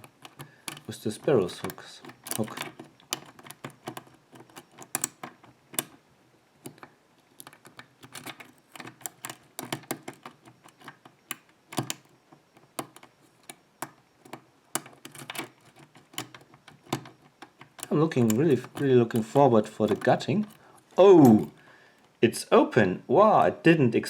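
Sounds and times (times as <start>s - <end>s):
lock pick clicking on pins: 0.0s - 6.0s, 6.6s - 22.2s.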